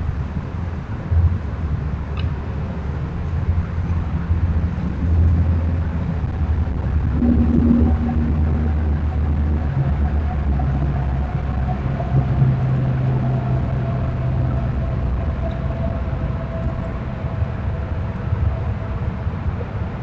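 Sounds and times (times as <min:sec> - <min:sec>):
low hum: 0:00.0 - 0:20.0
low rumble: 0:00.0 - 0:20.0
faint higher hum: 0:02.0 - 0:20.0.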